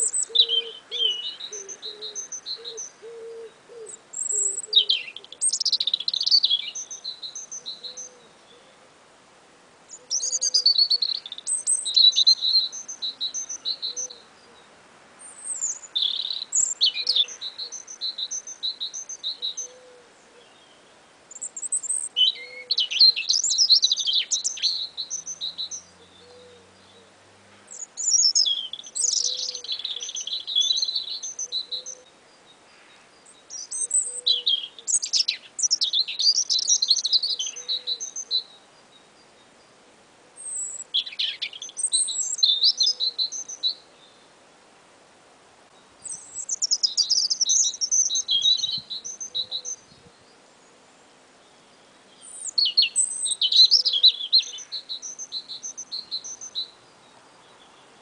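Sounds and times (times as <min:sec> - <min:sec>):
songbirds singing trills: 0:00.0 - 0:08.9, 0:09.8 - 0:44.4, 0:45.6 - 0:58.0.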